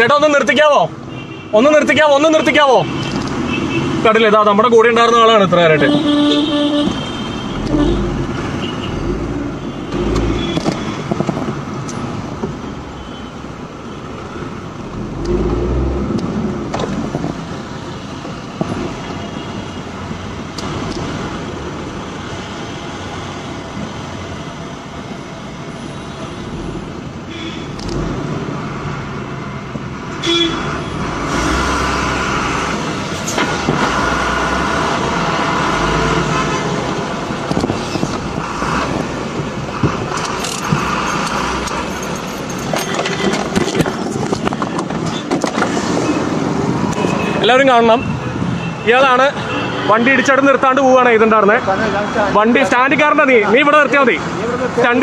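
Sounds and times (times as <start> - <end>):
car engine and road noise: 0.0 - 55.0
rumble of heavy vehicles: 0.0 - 55.0.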